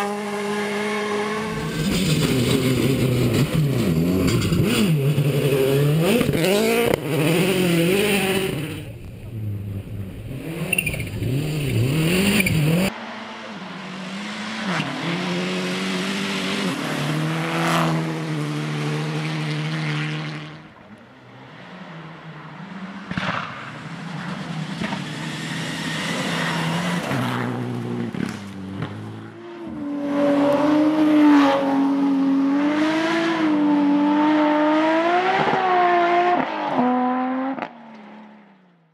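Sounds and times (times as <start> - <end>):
rally car engines revving: 0.0 - 38.6.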